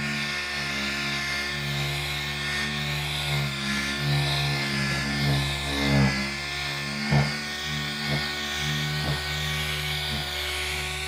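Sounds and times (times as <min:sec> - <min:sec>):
air sander whine: 0:00.0 - 0:11.0.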